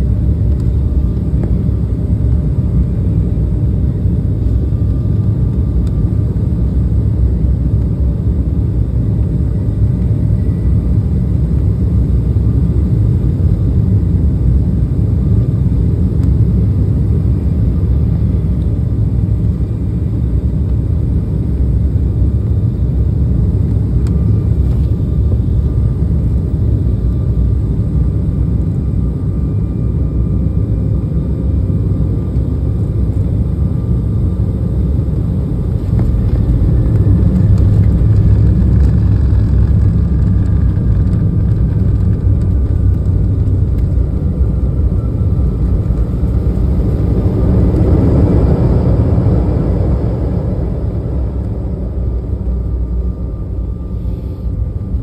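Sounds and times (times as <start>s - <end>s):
airliner engine rumble: 0.0s - 55.0s.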